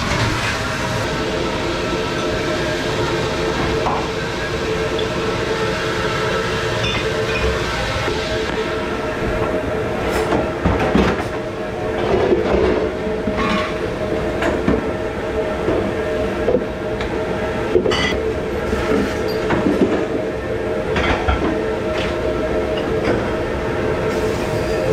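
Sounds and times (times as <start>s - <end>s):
steady mechanical hum: 0.0s - 24.9s.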